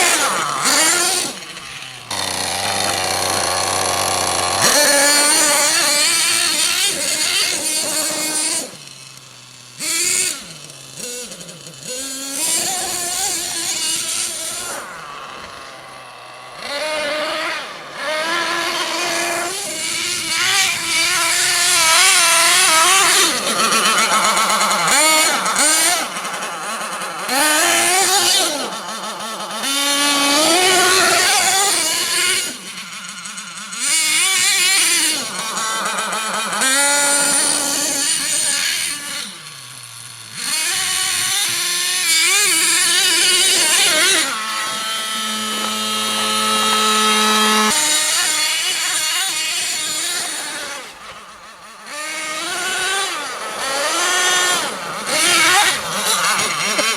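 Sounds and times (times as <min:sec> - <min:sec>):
toy truck motor whining: 0:00.0 - 0:56.9.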